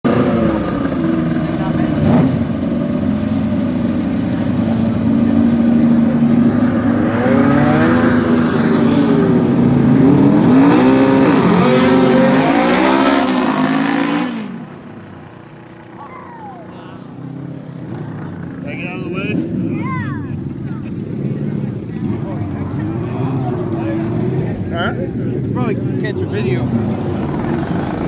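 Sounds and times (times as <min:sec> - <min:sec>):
lawn mower engines revving: 0:00.0 - 0:28.0.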